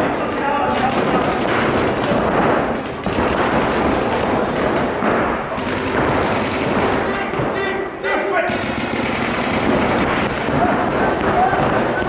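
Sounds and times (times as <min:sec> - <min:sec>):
paintball markers firing: 0:00.7 - 0:07.5, 0:08.5 - 0:12.0.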